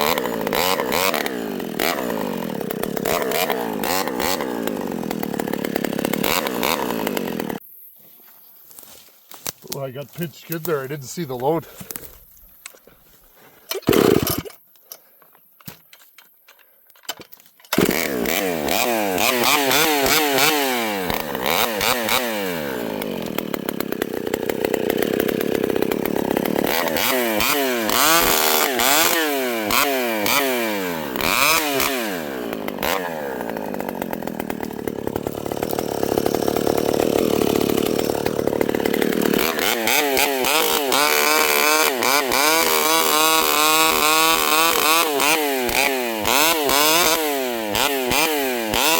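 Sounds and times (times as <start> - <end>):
chainsaw revving: 0.0 - 7.6, 13.7 - 14.6, 17.7 - 48.9.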